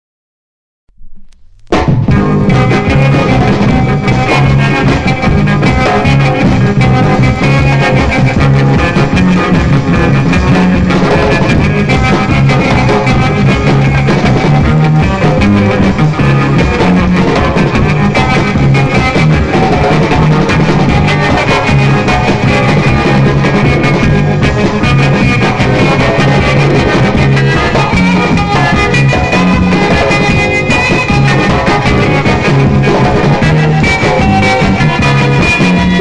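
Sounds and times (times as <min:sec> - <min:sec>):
loud rock music: 0:01.7 - 0:36.0.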